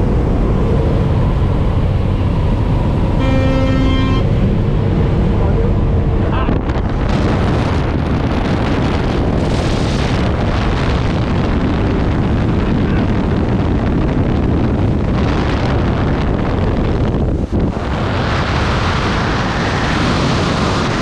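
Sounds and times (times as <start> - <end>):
deep rumble: 0.0 - 21.0
wind buffeting microphone: 0.0 - 21.0.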